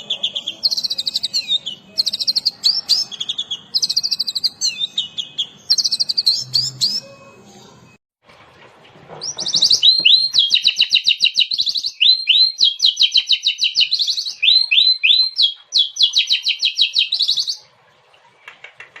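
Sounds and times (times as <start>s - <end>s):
magpie-robin singing: 0.0s - 8.0s, 9.2s - 17.7s.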